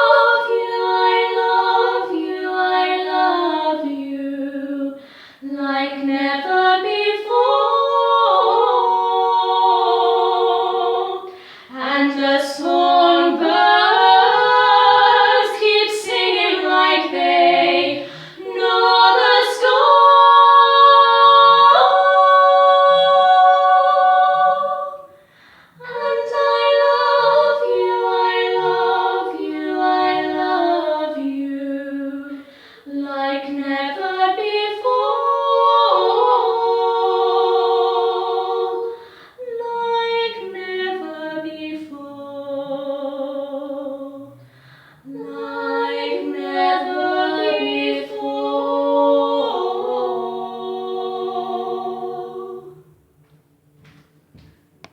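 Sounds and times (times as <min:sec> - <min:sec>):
women singing a cappella: 0:00.0 - 0:54.7.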